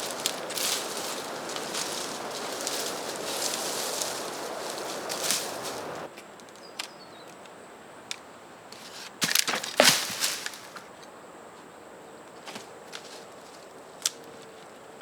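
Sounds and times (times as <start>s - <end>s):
dry leaves and sticks crackling: 0.0s - 7.3s, 8.8s - 11.1s, 12.4s - 15.0s.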